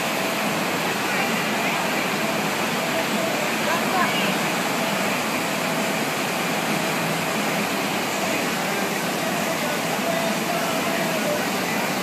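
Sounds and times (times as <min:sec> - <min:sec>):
rushing pumped water: 0:00.0 - 0:12.0.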